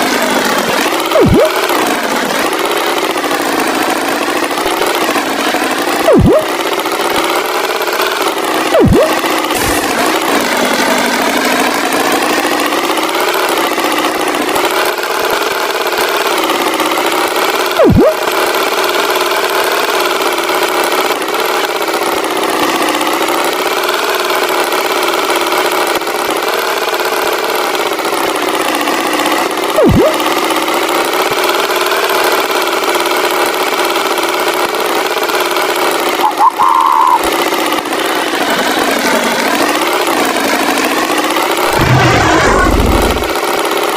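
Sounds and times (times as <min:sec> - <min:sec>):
cartoon tractor engine: 0:00.0 - 0:43.9.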